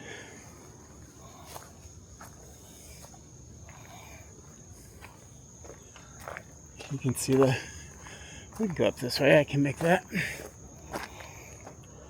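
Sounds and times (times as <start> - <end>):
insects droning: 0.0 - 12.0
footsteps on rocky trail: 0.6 - 12.0.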